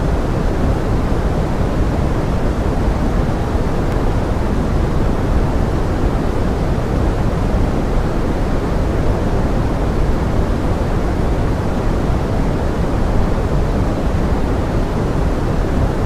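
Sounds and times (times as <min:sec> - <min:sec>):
pink noise hiss: 0:00.0 - 0:16.0.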